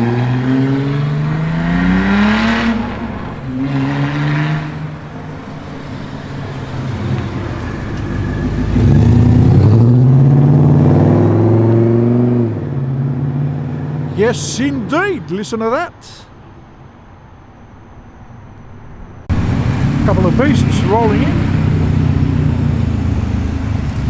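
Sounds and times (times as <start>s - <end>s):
louder car engine rising in pitch: 0.0s - 14.3s, 18.6s - 24.0s
car engines revving: 0.0s - 24.0s.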